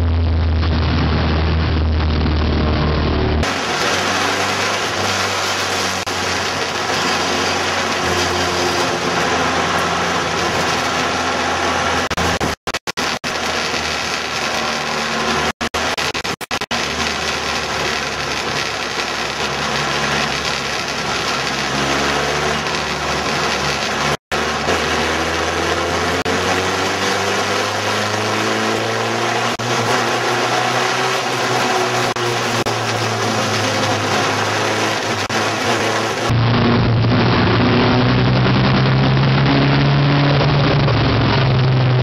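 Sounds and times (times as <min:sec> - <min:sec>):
race car engines passing: 0:01.5 - 0:42.0.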